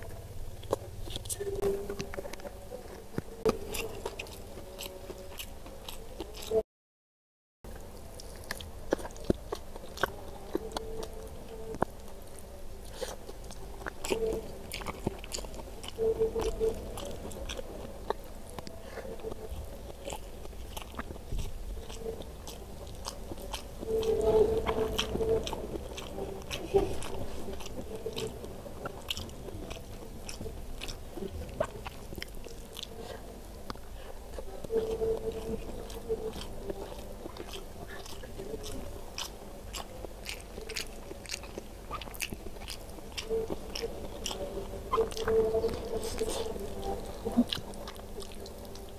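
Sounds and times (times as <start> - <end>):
person chewing food: 0.0 - 6.6, 7.7 - 48.9.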